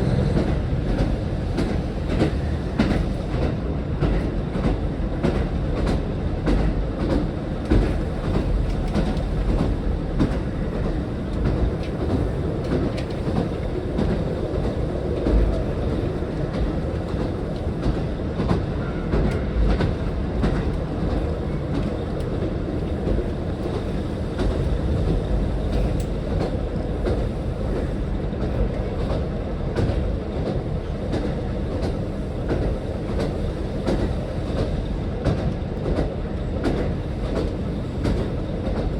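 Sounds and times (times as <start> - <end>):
diesel train rumble: 0.0 - 38.9.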